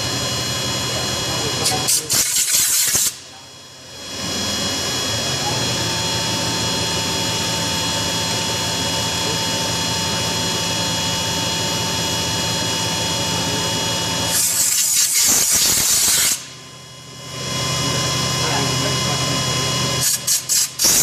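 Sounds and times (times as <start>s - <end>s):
machine humming and whining: 0.0s - 21.0s.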